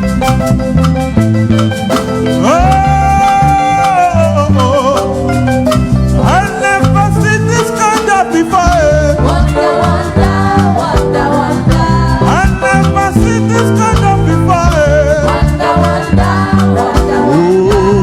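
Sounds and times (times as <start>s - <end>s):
gospel band playing: 0.0s - 18.0s.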